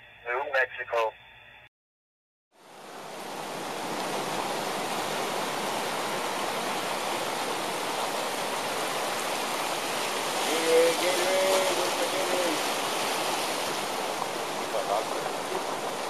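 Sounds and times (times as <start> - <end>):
flood water rushing: 2.6 - 16.0.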